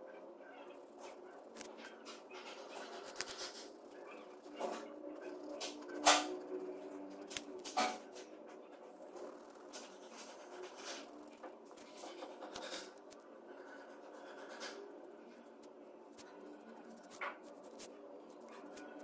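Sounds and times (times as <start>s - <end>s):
pencil scratching on paper: 0.6s - 19.0s.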